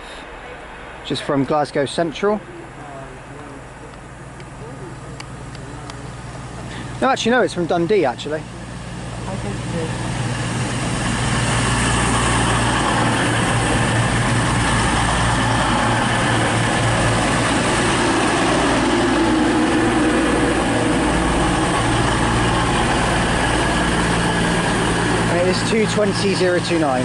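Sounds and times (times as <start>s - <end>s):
train diesel engines running: 0.0s - 27.0s.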